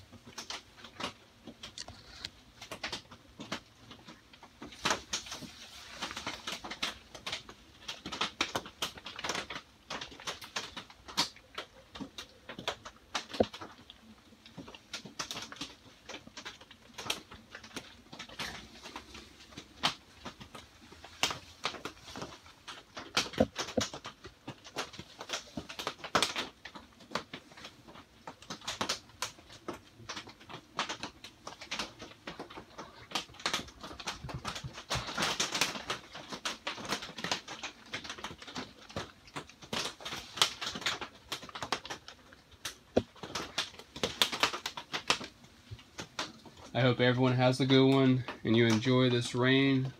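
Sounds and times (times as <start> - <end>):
rain on plastic panels: 0.0 - 49.9.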